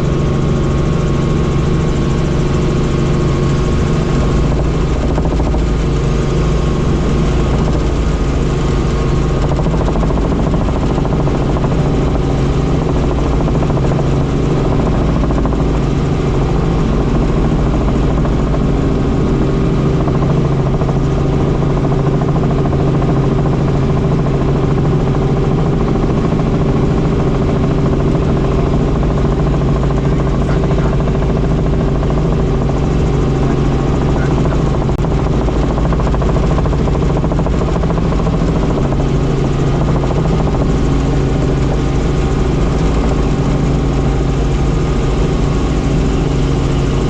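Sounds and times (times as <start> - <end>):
helicopter rotor and turbine: 0.0 - 47.0.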